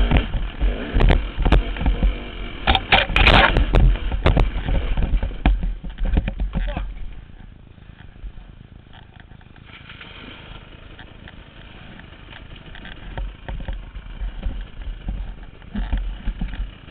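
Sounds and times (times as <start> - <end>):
dirt bike engine rumble: 0.0 - 16.9.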